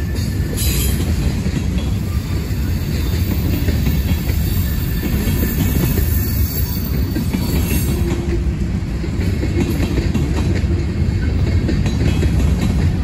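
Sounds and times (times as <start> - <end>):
train wheels rumbling on rail: 0.0 - 13.0
wheels clicking over rail joints: 0.1 - 13.0.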